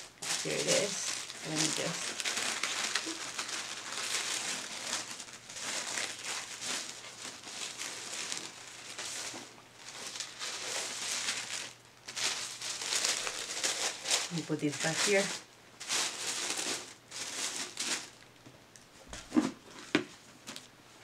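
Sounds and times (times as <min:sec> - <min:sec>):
tissue paper crinkling: 0:00.0 - 0:18.2.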